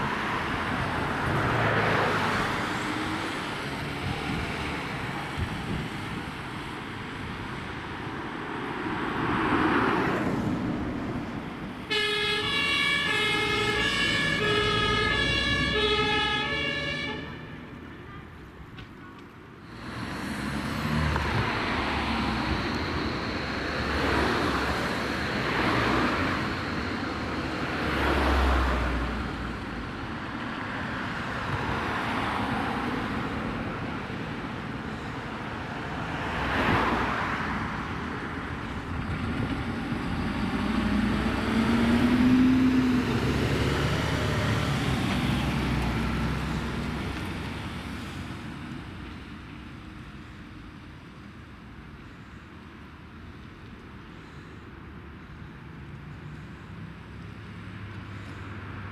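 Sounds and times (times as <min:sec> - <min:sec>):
vehicles driving past: 0:00.0 - 0:58.9.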